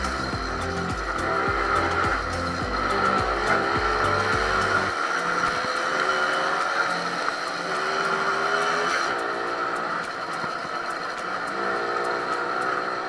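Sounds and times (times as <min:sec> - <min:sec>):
moped engine running: 0:00.0 - 0:13.0.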